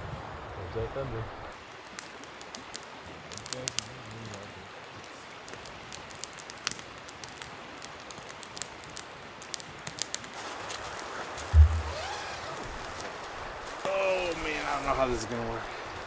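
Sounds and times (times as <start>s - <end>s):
campfire crackling and popping: 1.2s - 16.0s.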